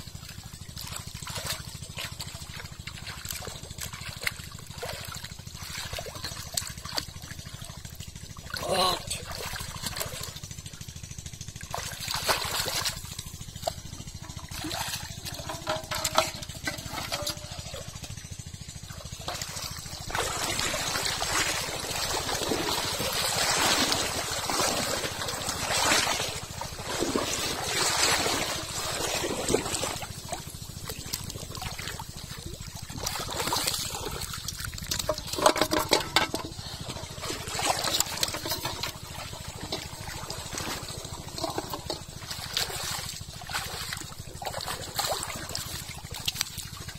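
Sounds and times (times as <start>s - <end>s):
muddy water splashing: 0.0s - 46.9s
water trickling: 0.1s - 46.9s.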